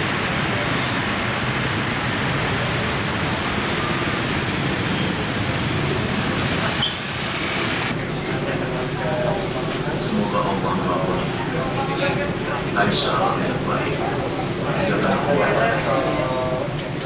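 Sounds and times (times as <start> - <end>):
busy street traffic with motorbikes: 0.0 - 17.0.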